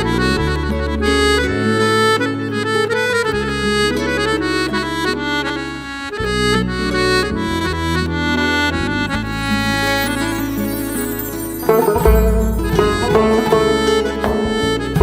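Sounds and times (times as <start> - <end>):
instrumental folk melody: 0.0 - 15.0
sustained bass notes: 0.0 - 15.0.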